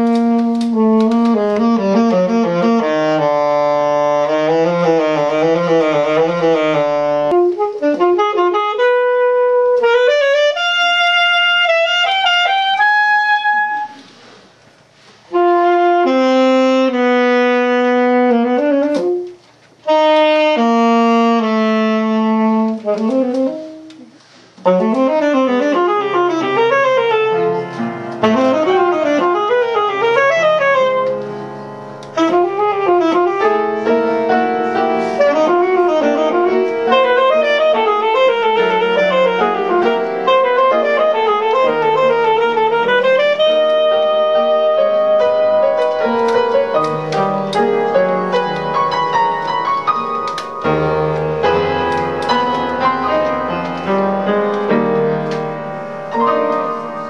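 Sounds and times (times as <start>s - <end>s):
piano accompaniment: 0.0s - 57.0s
saxophone jazzy melody: 0.0s - 57.0s.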